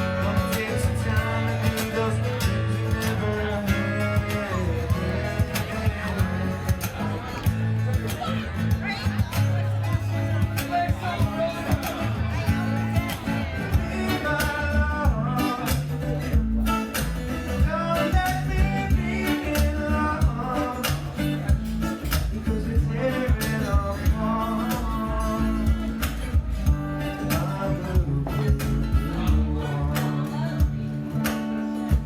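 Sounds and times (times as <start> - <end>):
person singing: 0.0 - 7.5, 10.3 - 16.3, 16.9 - 31.0
guitar: 0.0 - 32.0
looped beat and bass line: 0.0 - 32.0.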